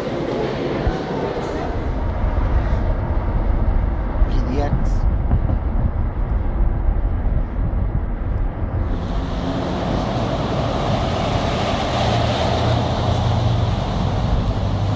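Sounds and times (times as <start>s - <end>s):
vehicle road noise: 0.0s - 14.9s.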